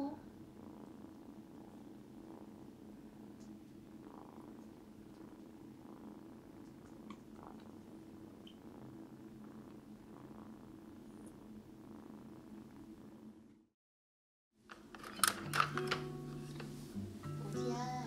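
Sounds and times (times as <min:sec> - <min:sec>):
cat purring: 0:00.0 - 0:13.7, 0:15.7 - 0:18.0.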